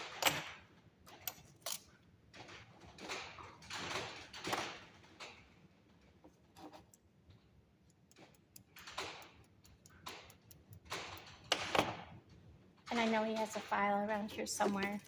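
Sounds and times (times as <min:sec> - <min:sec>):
hand tools and wire clattering: 0:00.0 - 0:15.0.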